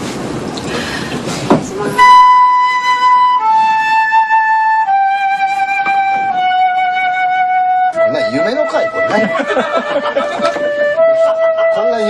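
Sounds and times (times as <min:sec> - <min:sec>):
slow classical solo melody: 0:01.7 - 0:12.0.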